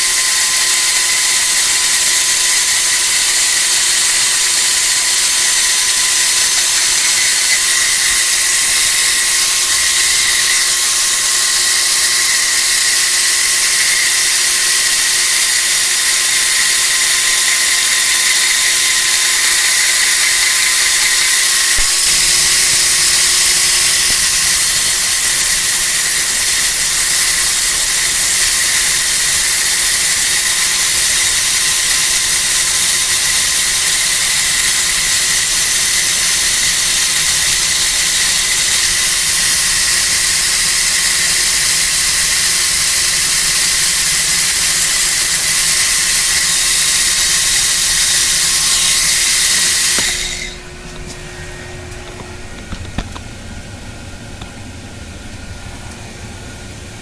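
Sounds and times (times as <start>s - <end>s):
angle grinder on metal: 0.0s - 51.2s.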